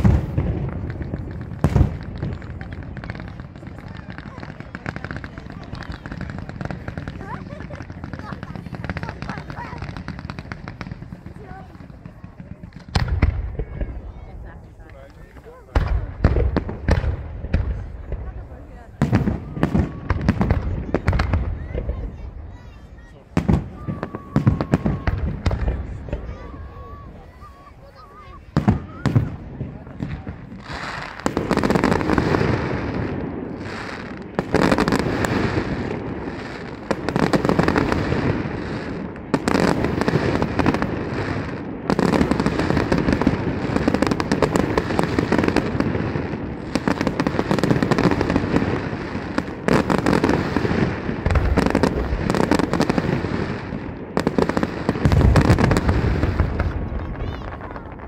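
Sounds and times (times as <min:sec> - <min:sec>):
firework bursts and bangs: 0:00.0 - 0:58.0
fireworks crackling: 0:00.0 - 0:58.0
low firework booms: 0:00.0 - 0:58.0.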